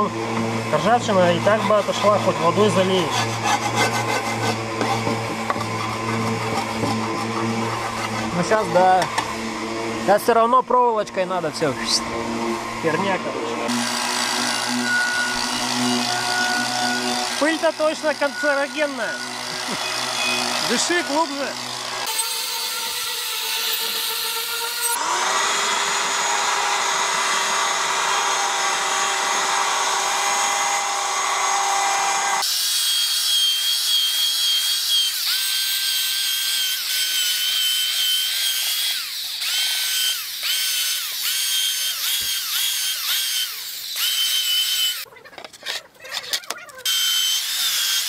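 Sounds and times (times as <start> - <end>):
belt sander whine: 0.0 - 45.1, 46.8 - 48.0
angle grinder grinding steel: 0.0 - 48.0.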